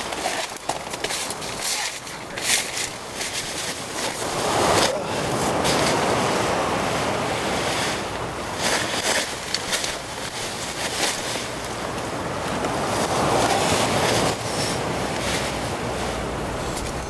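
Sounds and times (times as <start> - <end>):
wind: 0.0 - 17.0
waves rushing on beach: 1.4 - 17.0.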